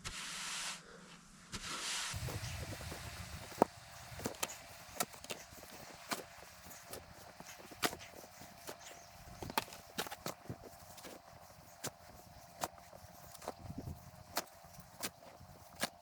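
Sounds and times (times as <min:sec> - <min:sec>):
packed snow crunching: 0:02.1 - 0:16.0.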